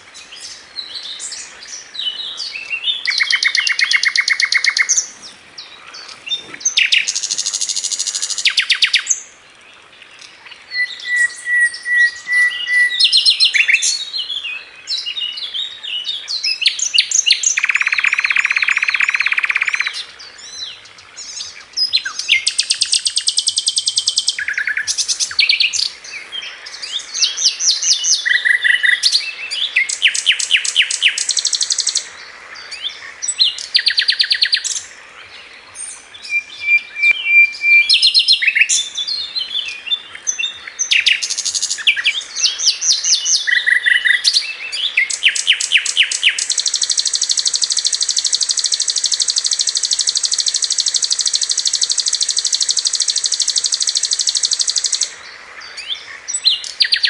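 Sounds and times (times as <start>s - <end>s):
songbird singing chirps and trills: 0.0s - 57.0s.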